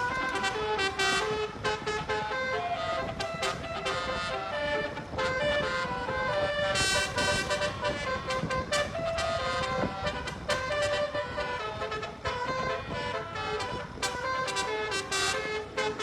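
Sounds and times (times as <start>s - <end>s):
musical air horn tune: 0.0s - 16.0s.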